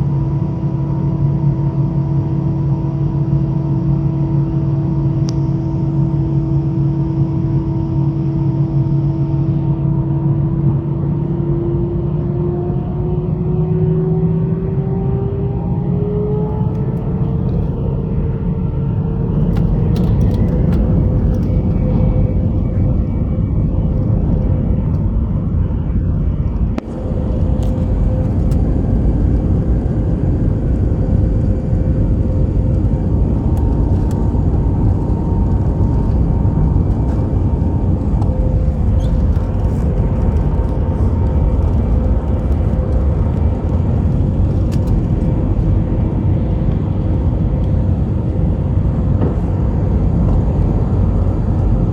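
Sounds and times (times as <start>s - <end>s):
engine fan whine: 0.0s - 51.9s
jet engines roaring at takeoff: 0.0s - 51.9s.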